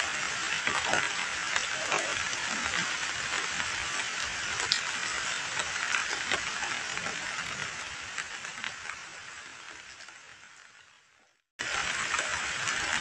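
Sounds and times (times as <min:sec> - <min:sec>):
rain hissing on a pool: 0:00.0 - 0:13.0
raindrop splashes: 0:00.0 - 0:13.0.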